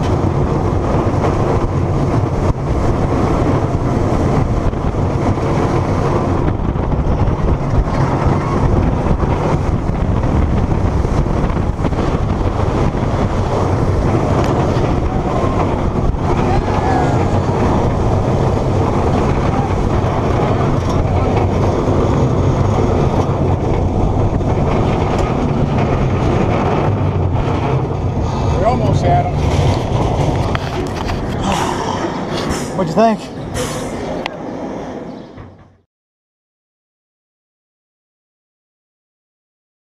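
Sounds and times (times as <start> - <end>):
roller coaster wheels rumbling: 0.0 - 35.9
wind rushing over microphone: 0.0 - 35.9.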